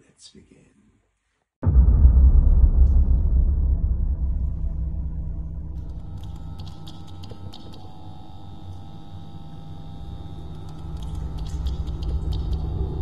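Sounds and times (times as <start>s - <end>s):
low steady hum: 1.6s - 13.0s.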